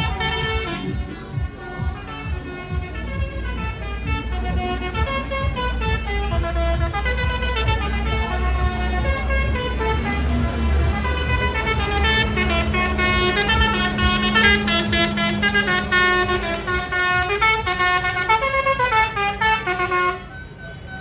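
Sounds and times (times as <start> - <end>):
pitched horn notes: 0.0 - 21.0
tractor engines rumbling: 0.0 - 21.0.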